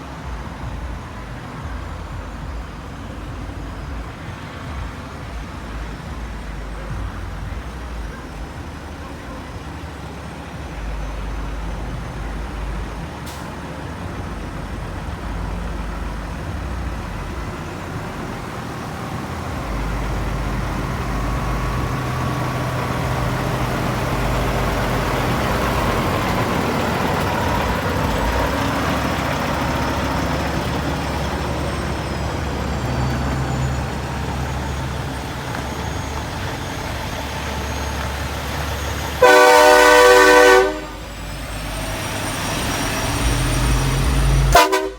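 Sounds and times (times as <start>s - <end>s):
heavy trucks engine rumble: 0.0s - 44.9s.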